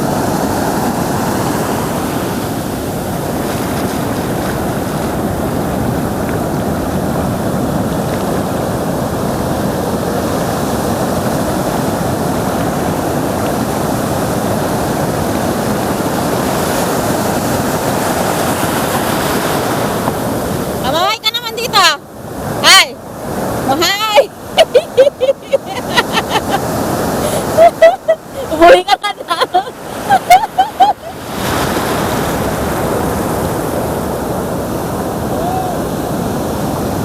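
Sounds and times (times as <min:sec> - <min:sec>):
ocean surf rushing: 0:00.0 - 0:37.0
wind on microphone: 0:00.0 - 0:37.0.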